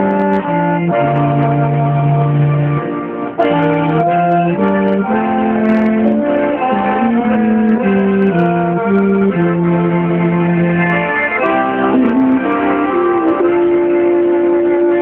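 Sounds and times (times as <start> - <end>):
brass ensemble playing a hymn: 0.0 - 15.0.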